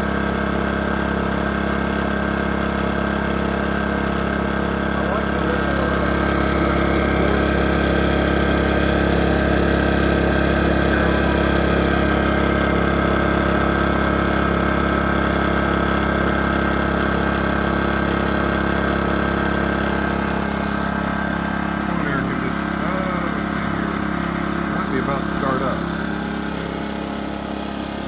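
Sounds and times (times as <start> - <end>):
air conditioner fan: 0.0 - 28.0
generator humming: 0.0 - 28.0.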